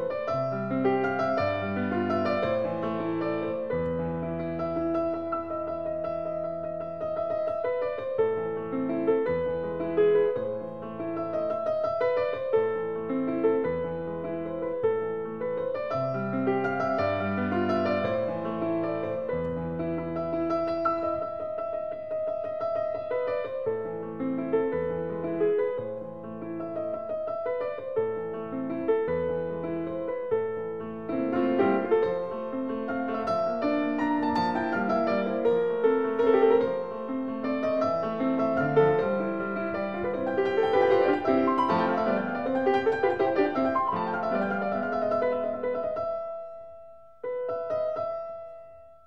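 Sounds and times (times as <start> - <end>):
slow piano music: 0.0 - 49.0.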